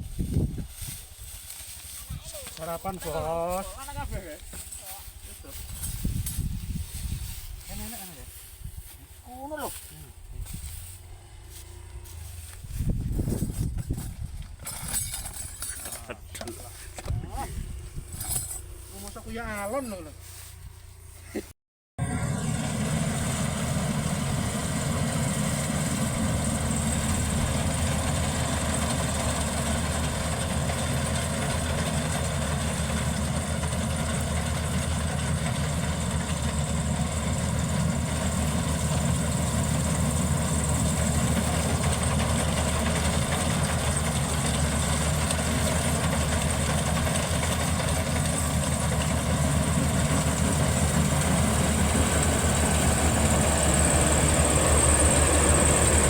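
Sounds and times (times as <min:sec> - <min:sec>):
combine harvester engine: 0:00.0 - 0:21.4, 0:22.0 - 0:56.0.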